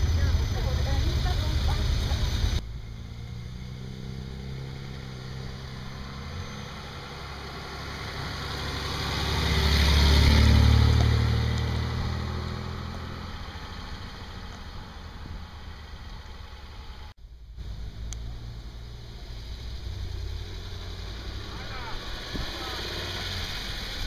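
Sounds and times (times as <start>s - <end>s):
car engine driving by: 0.0s - 24.0s.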